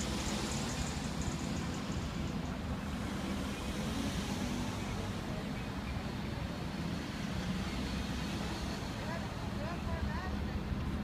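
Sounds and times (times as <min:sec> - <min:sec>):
cars driving: 0:00.0 - 0:11.0.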